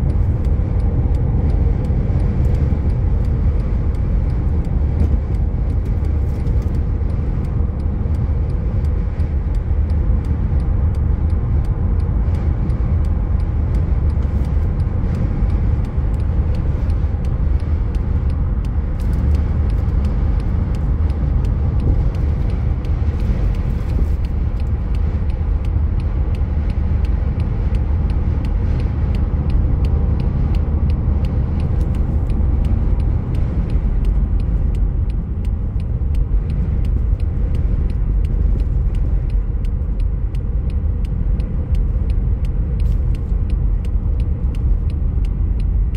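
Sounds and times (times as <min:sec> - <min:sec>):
road and wind noise in car: 0:00.0 - 0:45.9.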